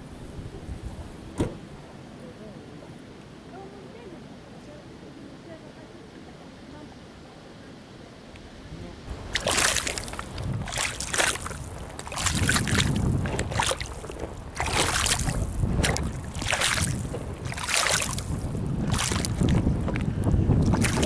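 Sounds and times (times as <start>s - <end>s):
wind rumbling on microphone: 0.0s - 4.2s, 8.3s - 21.0s
river water splashing and lapping: 0.9s - 21.0s.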